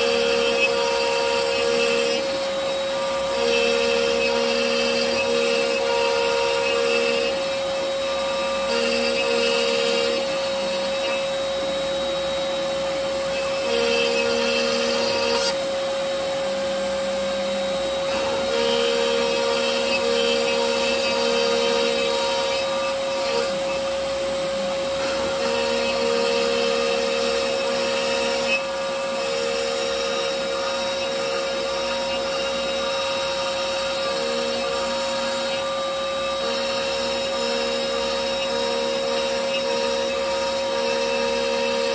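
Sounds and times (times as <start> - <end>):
dust extraction vacuum: 0.0 - 41.9
router bit cutting wood: 0.0 - 41.9
router spindle whining: 0.0 - 41.9.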